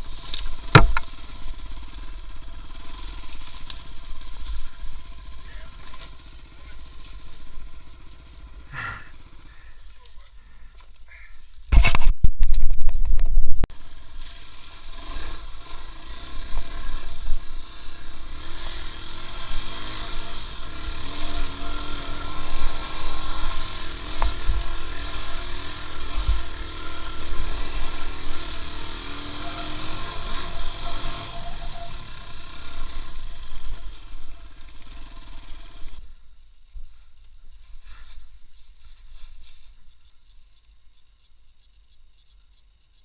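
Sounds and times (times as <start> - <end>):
vehicle engine running: 0.0 - 11.6, 13.7 - 43.0.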